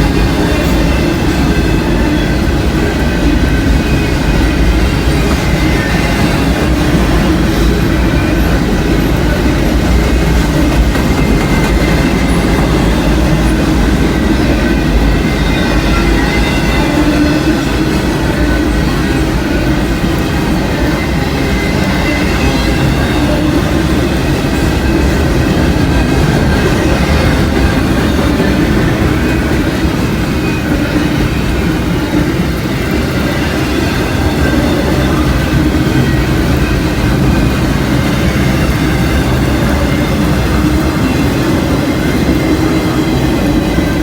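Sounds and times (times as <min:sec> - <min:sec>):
freight train wheels rumbling on rail: 0:00.0 - 0:44.0.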